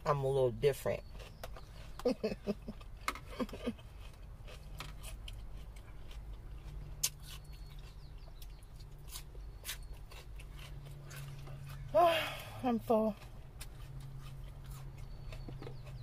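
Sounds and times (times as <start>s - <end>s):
chewing lettuce: 0.0s - 16.0s
low steady hum: 0.0s - 16.0s.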